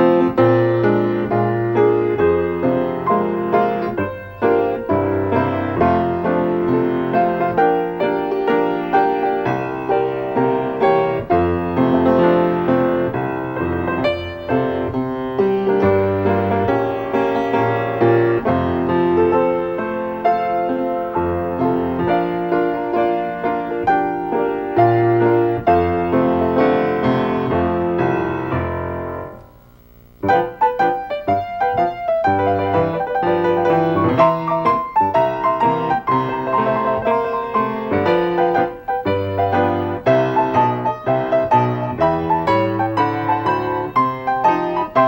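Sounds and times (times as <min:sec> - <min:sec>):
solo piano music: 0:00.0 - 0:45.0.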